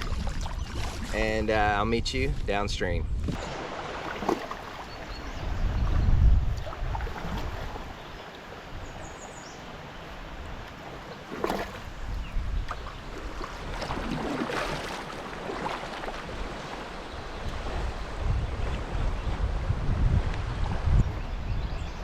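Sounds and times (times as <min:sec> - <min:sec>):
water lapping around hull: 0:00.0 - 0:01.7, 0:03.2 - 0:22.0
water splashes: 0:00.0 - 0:01.7, 0:03.2 - 0:19.6.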